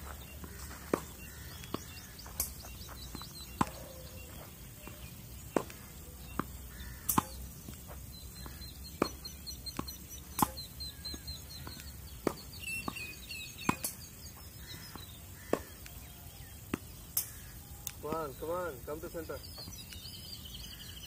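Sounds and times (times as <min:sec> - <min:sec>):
tennis balls bouncing: 0:00.0 - 0:16.0, 0:16.6 - 0:20.0
birds chirping: 0:00.0 - 0:21.0
tennis balls struck by rackets: 0:00.1 - 0:16.0, 0:16.6 - 0:19.8.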